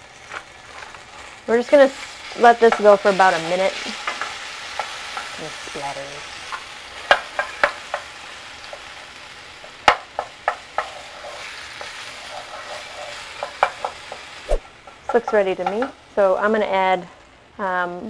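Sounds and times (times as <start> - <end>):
garlic sizzling in oil: 0.0 - 18.0.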